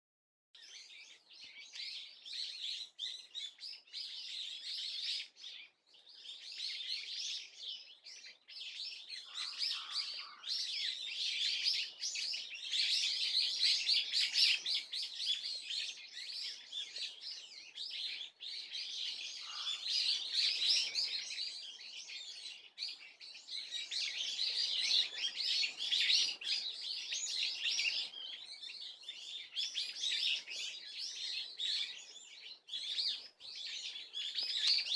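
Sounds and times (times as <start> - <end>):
small birds twittering: 0.6 - 34.9.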